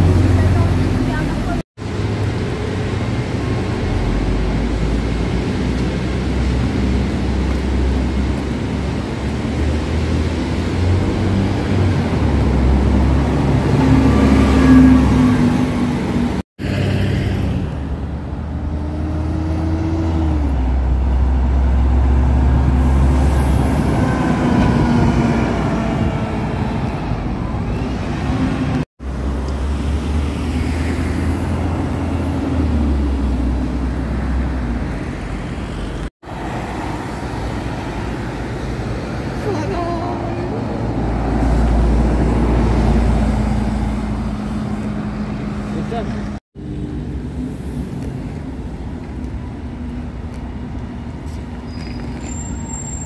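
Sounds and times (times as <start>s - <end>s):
buses driving past: 0.0s - 53.0s
street traffic: 0.0s - 53.0s.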